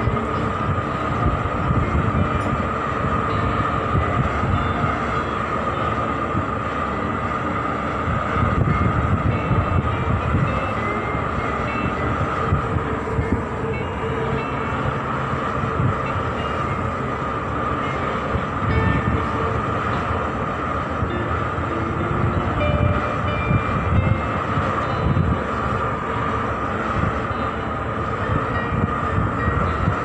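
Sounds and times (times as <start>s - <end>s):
low machinery rumble: 0.0s - 30.0s
ship machinery hum: 0.0s - 30.0s.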